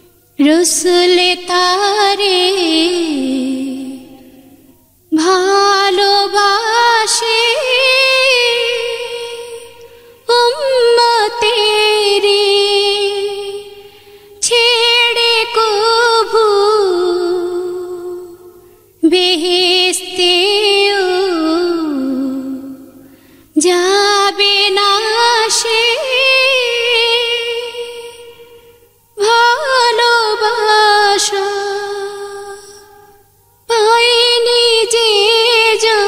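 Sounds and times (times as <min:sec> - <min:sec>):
person singing unaccompanied: 0:00.0 - 0:23.0, 0:23.6 - 0:33.0, 0:33.7 - 0:36.0.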